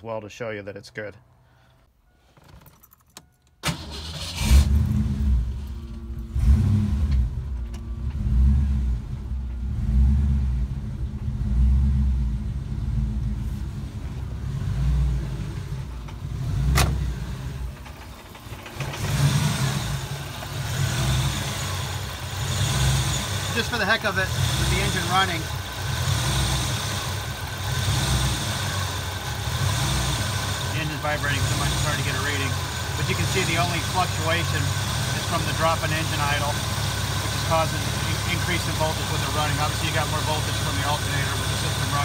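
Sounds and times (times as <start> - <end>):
car engine idling unevenly: 3.7 - 42.0.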